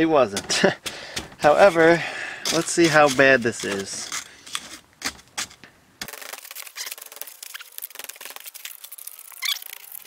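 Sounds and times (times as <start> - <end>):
tool scraping crumbling sand: 0.2 - 10.0.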